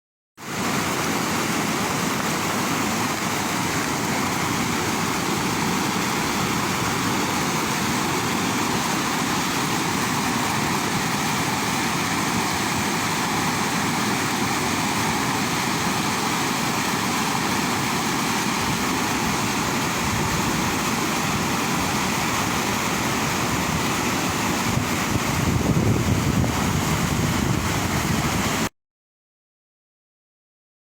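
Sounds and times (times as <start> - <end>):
water roaring over waterfall: 0.4 - 28.7.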